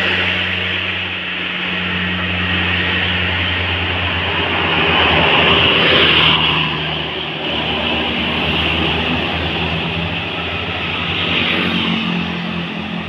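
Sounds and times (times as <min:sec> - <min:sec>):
diesel bus engine humming: 0:00.0 - 0:13.0
road and traffic noise: 0:00.0 - 0:13.0.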